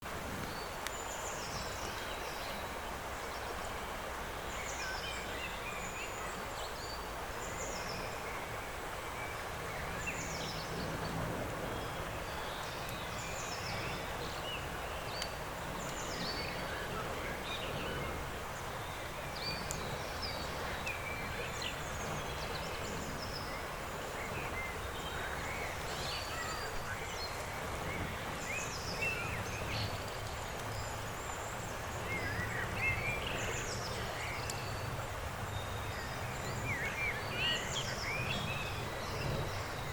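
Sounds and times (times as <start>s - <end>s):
outdoor hiss: 0.0s - 39.9s
small birds chirping: 0.4s - 39.9s.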